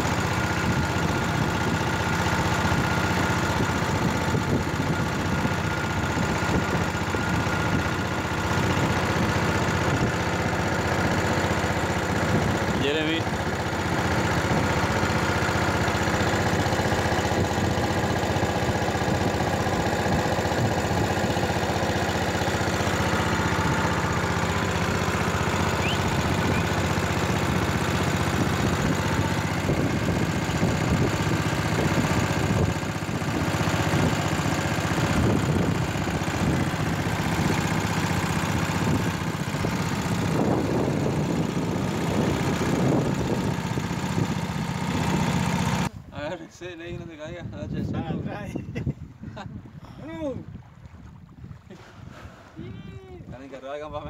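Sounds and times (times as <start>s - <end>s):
engine humming steadily: 0.0s - 54.0s.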